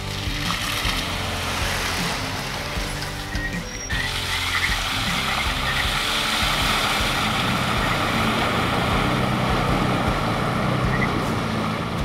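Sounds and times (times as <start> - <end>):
truck engine running: 0.0 - 12.0
tyres splashing through water: 0.0 - 12.0.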